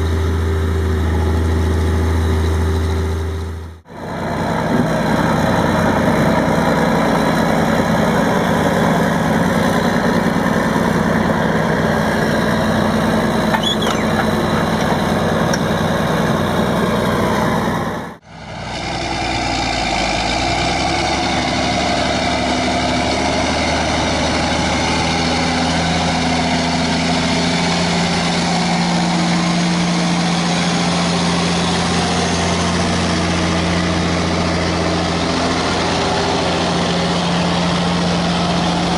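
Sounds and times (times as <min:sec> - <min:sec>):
different engine sound: 0:00.0 - 0:38.9
heavy diesel engines running: 0:00.0 - 0:38.9.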